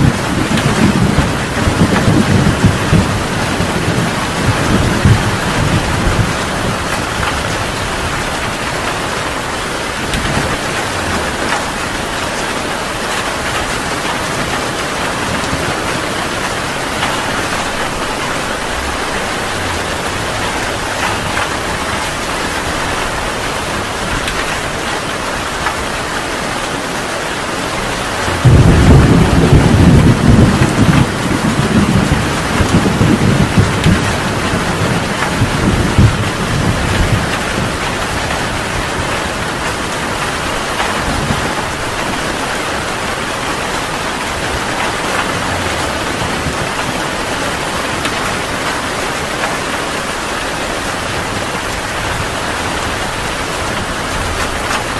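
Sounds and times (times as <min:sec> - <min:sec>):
thunder rolling: 0:00.0 - 0:26.1, 0:27.6 - 0:48.7
heavy rain: 0:00.0 - 0:54.9.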